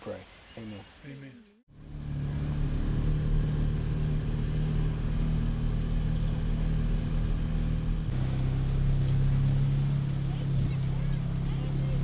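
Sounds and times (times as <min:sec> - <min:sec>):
vehicle engine humming: 0:01.7 - 0:12.0.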